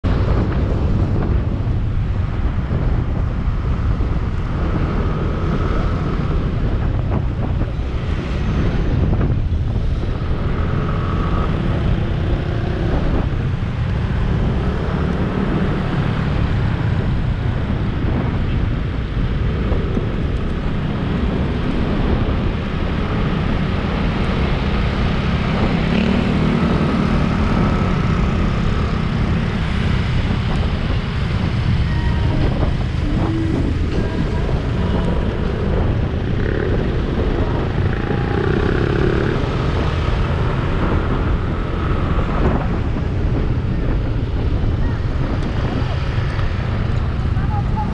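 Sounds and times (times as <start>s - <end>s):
passing traffic: 0.0s - 47.9s
wind rushing over microphone: 0.0s - 47.9s.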